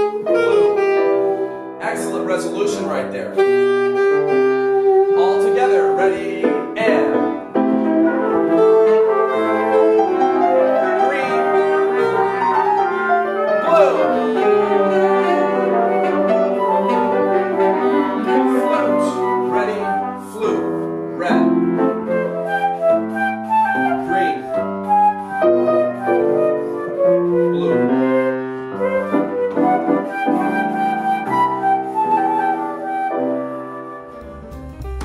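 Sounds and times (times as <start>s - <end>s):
wind and brass instruments: 0.0s - 2.2s, 2.9s - 35.0s
piano chords: 0.0s - 35.0s.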